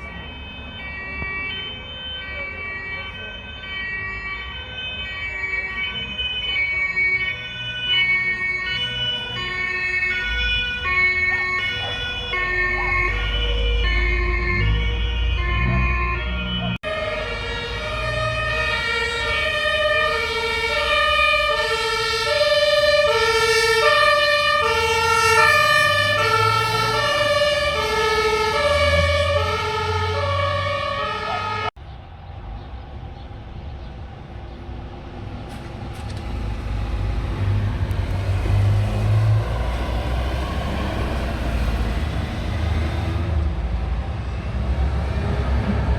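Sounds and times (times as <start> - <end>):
vehicle rumble with road noise: 0.0 - 45.9.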